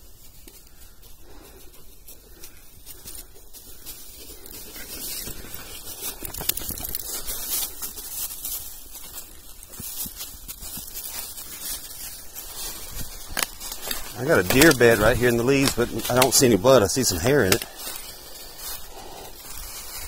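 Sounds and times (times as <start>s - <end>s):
footsteps crunching dry leaves: 0.0s - 20.0s.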